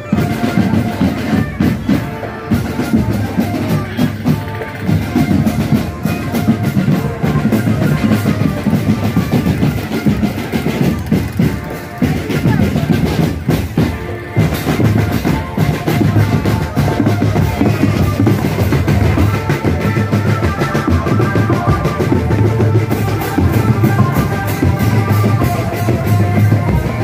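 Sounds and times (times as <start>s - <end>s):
drums beating fast rhythm: 0.0s - 27.0s.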